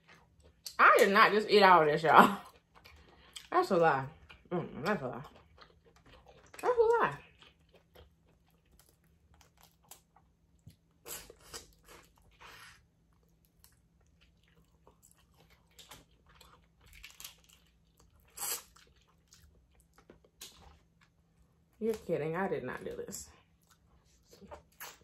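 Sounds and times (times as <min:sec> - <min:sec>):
close chewing and crunching: 0:00.0 - 0:01.2, 0:01.9 - 0:22.0, 0:22.8 - 0:25.0.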